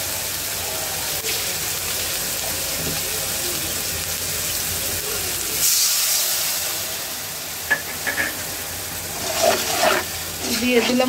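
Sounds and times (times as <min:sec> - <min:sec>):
hissing steam: 0:00.0 - 0:11.0
masala sizzling in metal pan: 0:00.0 - 0:11.0
water splashing into hot pan: 0:00.0 - 0:11.0.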